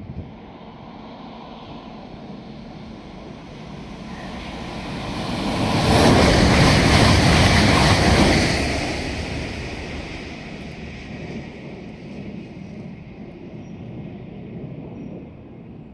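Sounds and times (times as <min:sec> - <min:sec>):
train rushing past: 0:00.0 - 0:13.8.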